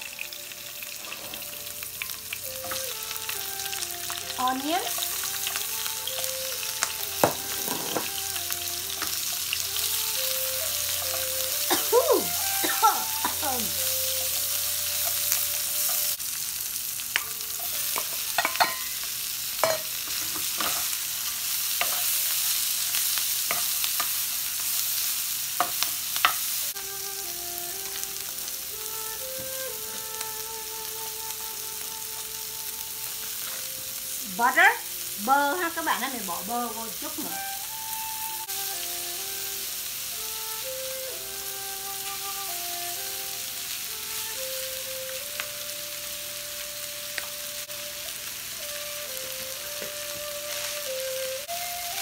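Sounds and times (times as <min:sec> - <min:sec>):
vegetables sizzling in oil: 0:00.0 - 0:52.0.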